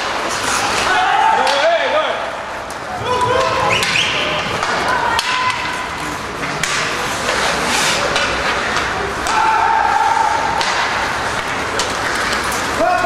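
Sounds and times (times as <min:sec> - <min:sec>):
knocks of sticks puck and boards: 0:00.0 - 0:13.0
skates scraping ice: 0:00.0 - 0:13.0.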